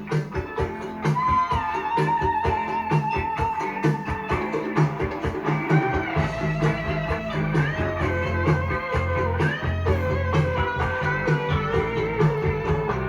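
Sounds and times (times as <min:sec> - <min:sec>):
guitar-led rock music: 0:00.0 - 0:13.0.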